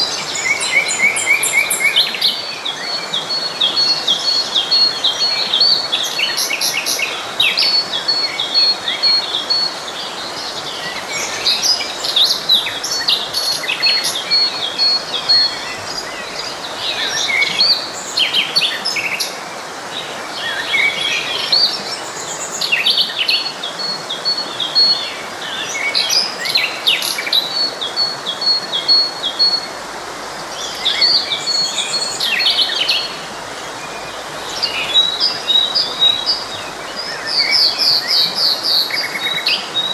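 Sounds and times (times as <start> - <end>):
forest stream flowing: 0.0 - 39.9
songbirds chirping and singing: 0.0 - 39.9.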